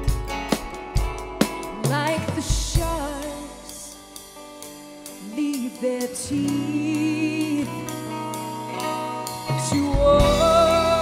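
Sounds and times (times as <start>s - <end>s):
acoustic guitars: 0.0s - 11.0s
drum kit playing: 0.0s - 11.0s.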